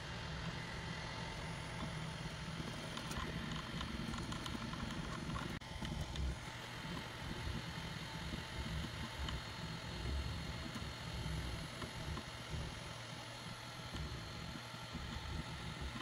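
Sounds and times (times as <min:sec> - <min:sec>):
printer motors and fans whirring: 0:00.0 - 0:16.0.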